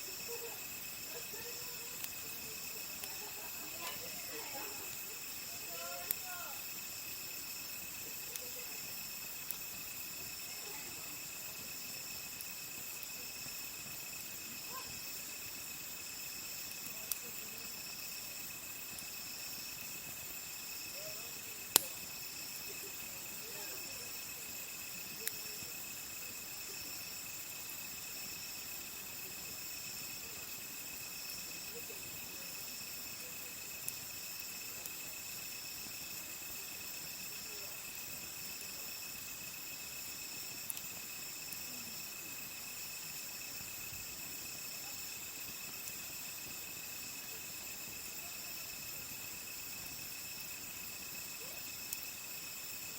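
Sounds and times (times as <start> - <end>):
campfire crackling: 0.0 - 52.9
insects chirring: 0.0 - 52.9.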